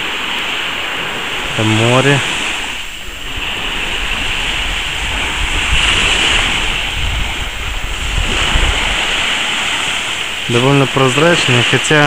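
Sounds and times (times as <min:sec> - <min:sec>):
sea surf on a beach: 0:00.0 - 0:12.0
wind buffeting microphone: 0:00.0 - 0:12.0.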